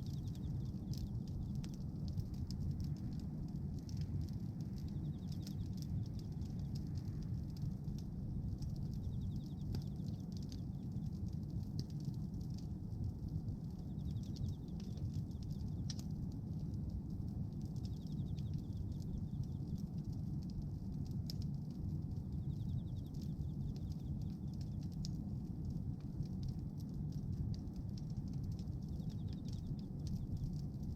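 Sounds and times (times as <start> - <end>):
bonfire rumble: 0.0 - 30.9
fire crackling and popping: 0.0 - 30.9.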